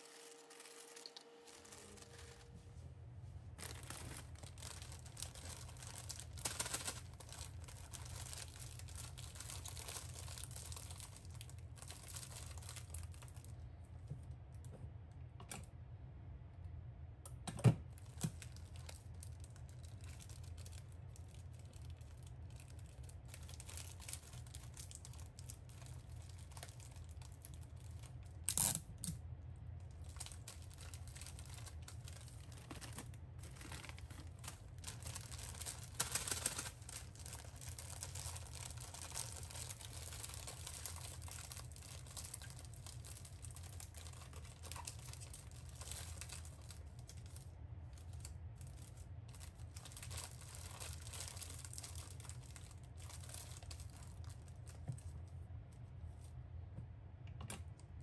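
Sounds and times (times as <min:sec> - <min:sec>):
plastic bags rustling: 0:00.0 - 0:02.8, 0:03.5 - 0:13.4, 0:18.0 - 0:28.7, 0:29.9 - 0:55.1
steady low hum: 0:00.0 - 0:58.0.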